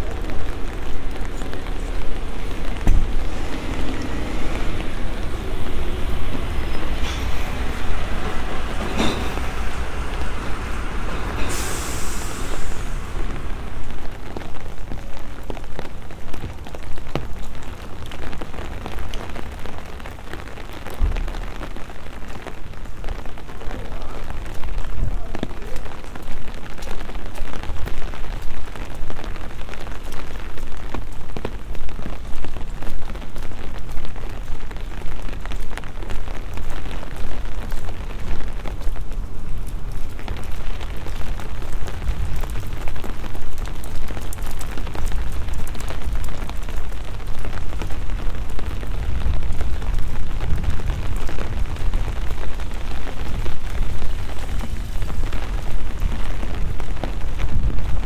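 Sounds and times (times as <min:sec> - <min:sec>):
wind buffeting microphone: 0:00.0 - 0:19.0, 0:30.5 - 0:58.0
rain on wet pavement: 0:00.0 - 0:58.0.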